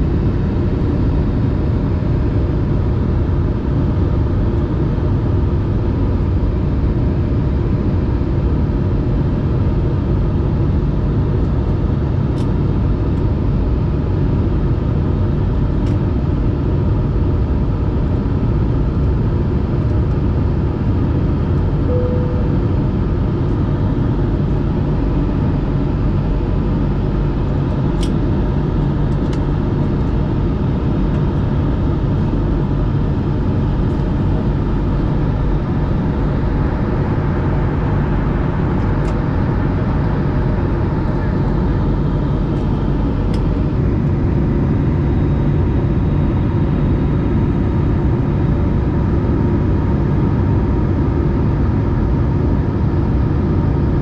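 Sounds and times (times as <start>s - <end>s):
jet airliner cabin drone: 0.0s - 54.0s.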